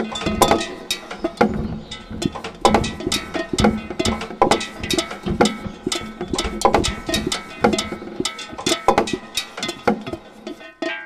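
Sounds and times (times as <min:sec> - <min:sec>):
metal saucepans clanking: 0:00.0 - 0:11.0.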